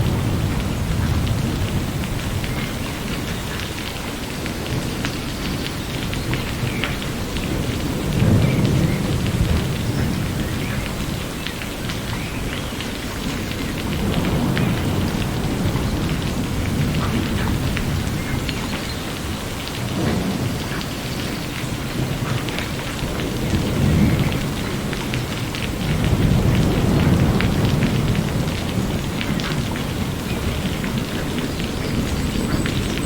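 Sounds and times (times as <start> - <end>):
low rumbles of thunder: 0.0 - 33.0
raindrops ticking: 0.0 - 33.0
steady rain falling: 0.0 - 33.0.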